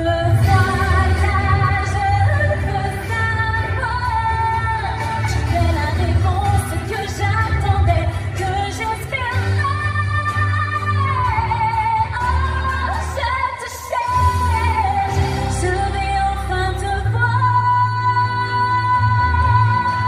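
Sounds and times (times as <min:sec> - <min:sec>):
musical backing with bass: 0:00.0 - 0:20.0
woman singing with vibrato: 0:00.0 - 0:20.0.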